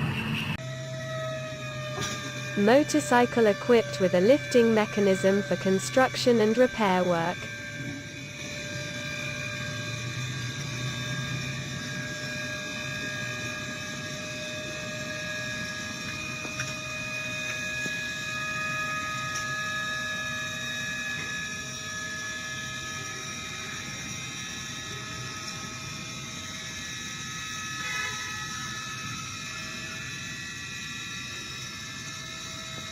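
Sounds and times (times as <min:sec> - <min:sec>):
high whining tones: 0:00.0 - 0:32.9.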